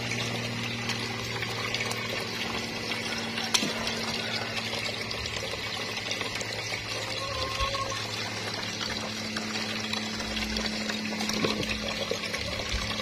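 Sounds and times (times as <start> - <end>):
water pouring into tub: 0.0 - 13.0.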